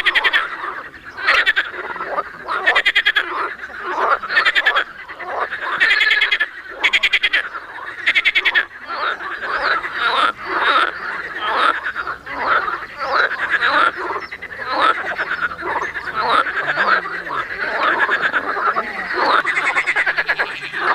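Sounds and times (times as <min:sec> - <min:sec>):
fast rattling frog trills: 0:00.0 - 0:20.9
frogs croaking chorus: 0:00.0 - 0:20.9.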